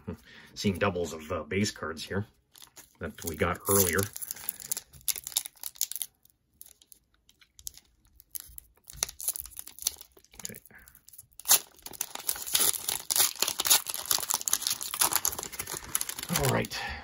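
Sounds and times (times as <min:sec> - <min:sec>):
foil wrapper crinkling and tearing: 0:02.5 - 0:16.8.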